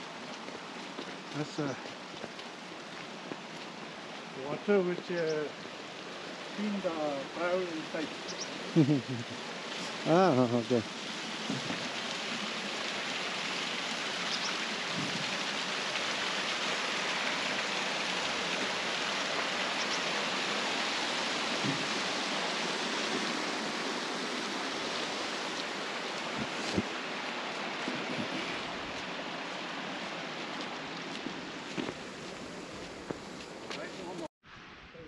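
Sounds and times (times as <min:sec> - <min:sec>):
stream running over rocks: 0:00.0 - 0:34.3.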